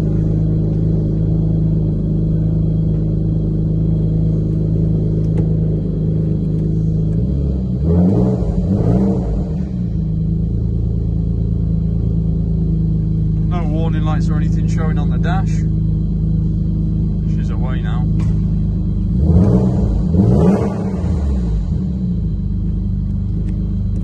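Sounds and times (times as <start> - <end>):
car engine idling: 0.0 - 24.0
engine revving: 0.0 - 24.0.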